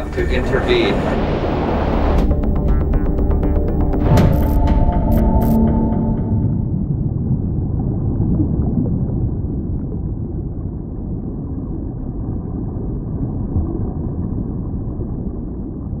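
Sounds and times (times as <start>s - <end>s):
low muffled rumble: 0.0s - 16.0s.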